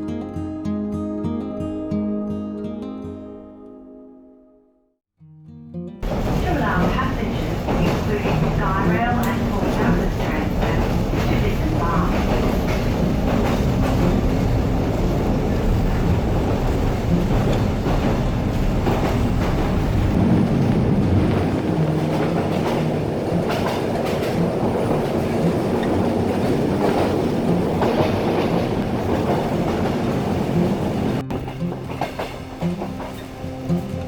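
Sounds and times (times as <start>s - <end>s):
train wheels clattering over rails: 6.0s - 33.9s.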